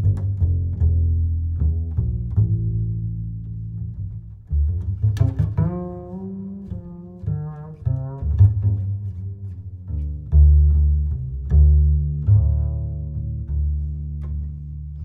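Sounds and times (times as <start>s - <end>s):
deep string bass notes: 0.0s - 15.0s.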